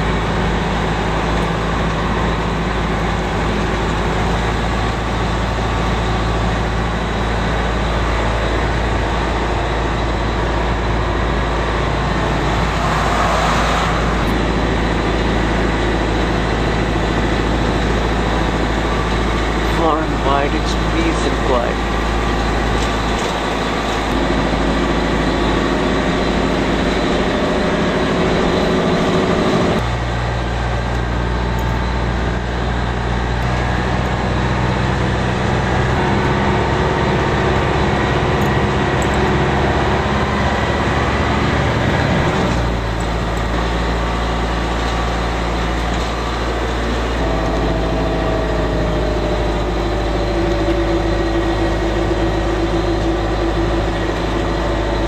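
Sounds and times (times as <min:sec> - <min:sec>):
bus engine running: 0:00.0 - 0:55.0
road noise: 0:00.0 - 0:55.0.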